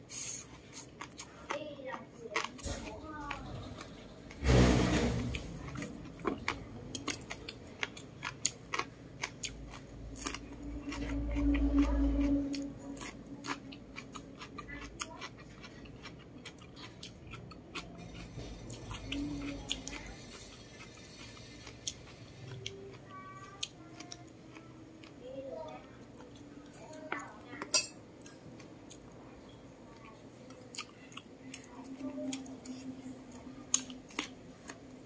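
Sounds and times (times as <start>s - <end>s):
wet chewing and mouth sounds: 0.0s - 4.4s, 5.3s - 35.0s.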